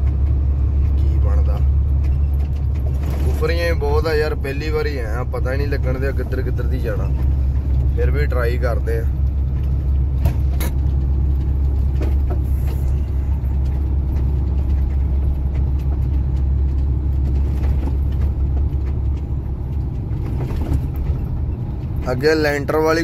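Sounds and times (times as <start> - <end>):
heavy truck engine and road noise: 0.0 - 23.0.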